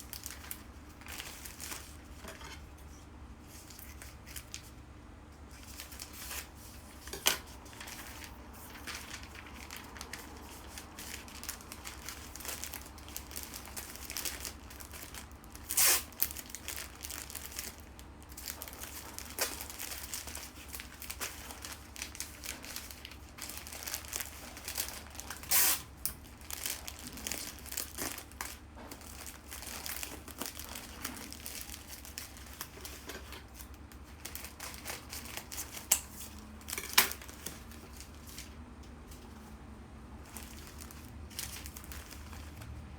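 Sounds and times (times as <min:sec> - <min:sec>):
wrapping material crinkling: 0:00.0 - 0:02.6, 0:03.4 - 0:04.8, 0:05.5 - 0:39.3, 0:40.2 - 0:42.9.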